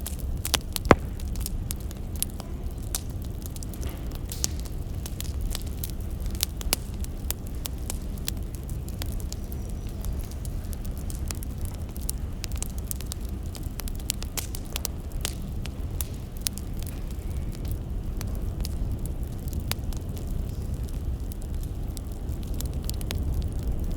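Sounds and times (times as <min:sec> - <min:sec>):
firewood crackling: 0:00.0 - 0:23.9.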